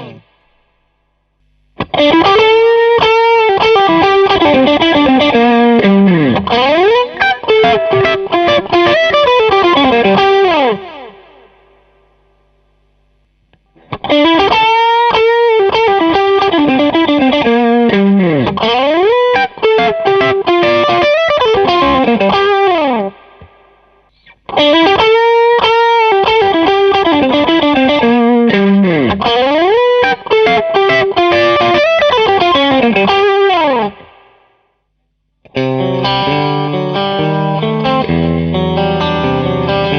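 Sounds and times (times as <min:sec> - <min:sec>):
overdriven electric guitar lead: 0:00.0 - 0:34.5, 0:35.4 - 0:39.9.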